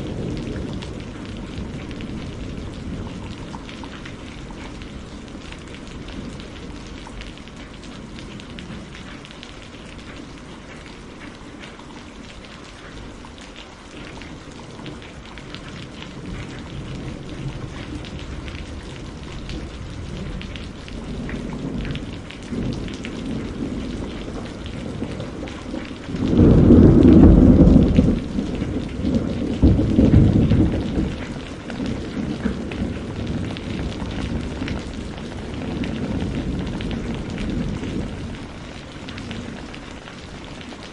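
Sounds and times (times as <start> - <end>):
thunder rumbling: 0.0 - 9.2, 14.2 - 40.9
steady rain falling: 0.0 - 40.9.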